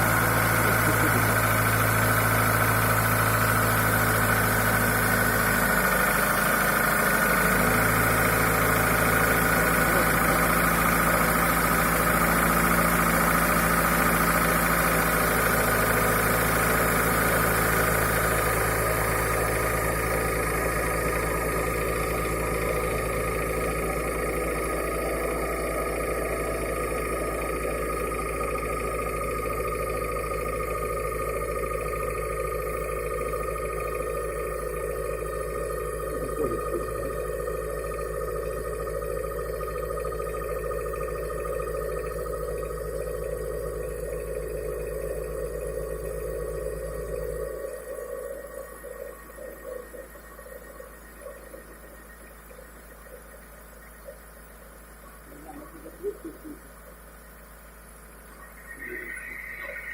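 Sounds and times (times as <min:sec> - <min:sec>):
car engine idling with knocking: 0:00.0 - 0:59.9.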